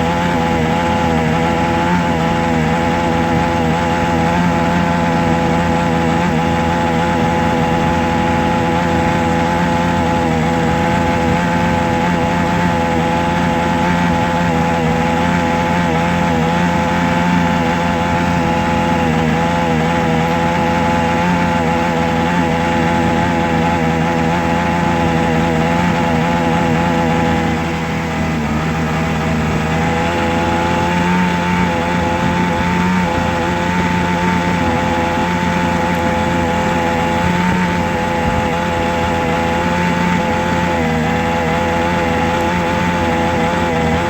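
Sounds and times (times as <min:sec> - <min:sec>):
small motor droning: 0:00.0 - 0:44.0.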